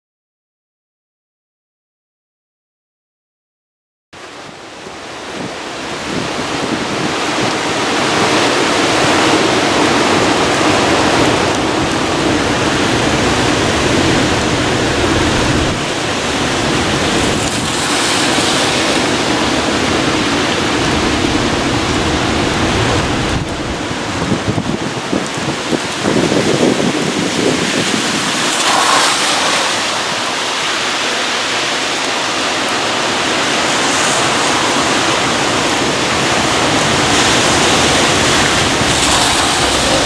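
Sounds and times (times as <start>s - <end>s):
strong wind buffeting microphone: 4.3s - 40.0s.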